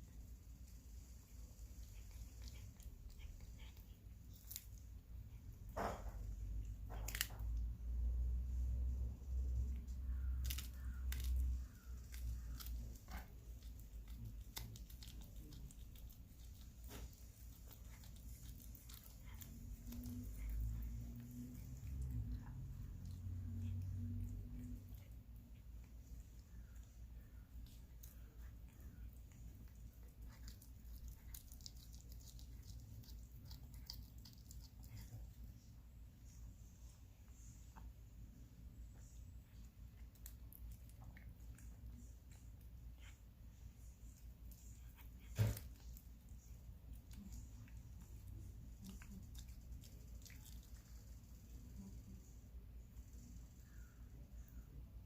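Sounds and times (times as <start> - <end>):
cat chewing and crunching: 0.0 - 55.0
low hum: 0.0 - 55.0.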